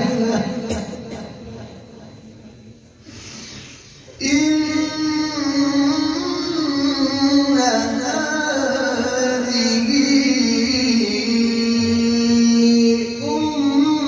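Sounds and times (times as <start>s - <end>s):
man reciting melodically: 0.0s - 2.8s, 3.9s - 14.0s.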